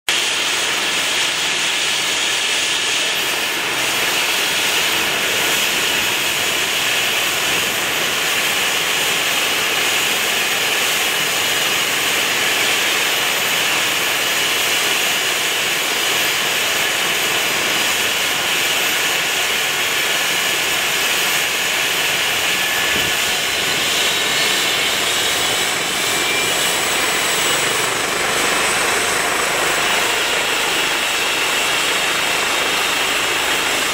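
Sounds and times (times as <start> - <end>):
helicopter turbine whine and rotor: 0.1 - 33.9.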